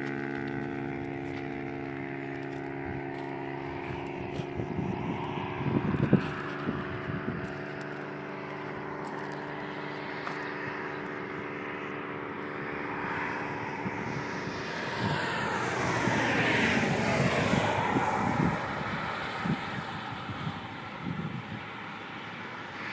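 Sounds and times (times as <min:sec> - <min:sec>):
steady droning hum: 0:00.0 - 0:22.9
vehicle passing on highway: 0:00.0 - 0:22.9.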